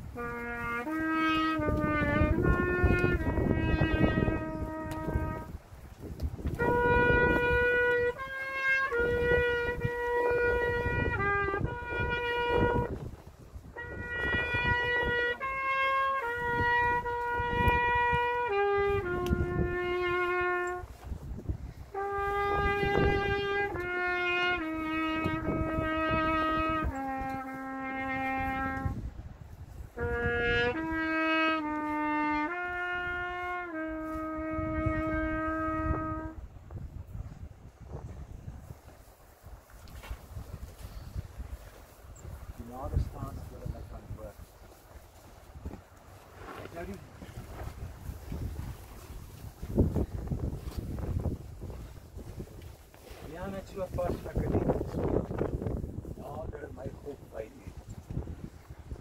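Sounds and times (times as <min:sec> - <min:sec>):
solo brass melody: 0:00.0 - 0:38.7, 0:46.4 - 0:59.0.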